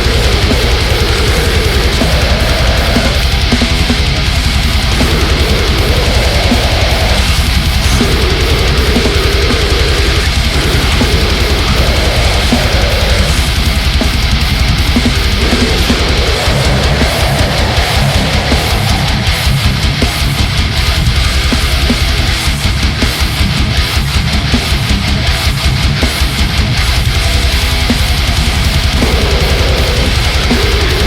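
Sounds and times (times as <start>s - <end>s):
death metal band playing: 0.0s - 31.0s.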